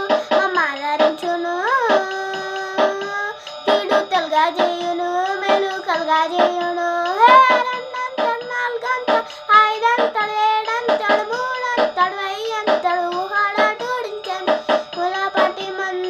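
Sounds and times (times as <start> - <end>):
boy singing: 0.0 - 16.0.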